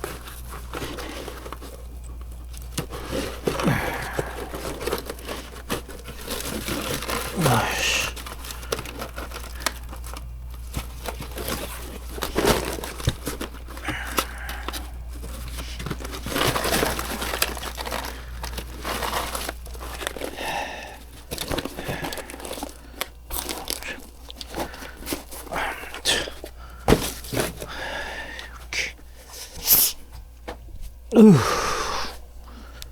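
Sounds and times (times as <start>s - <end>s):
dry chestnut burrs crunching: 0.0s - 28.9s.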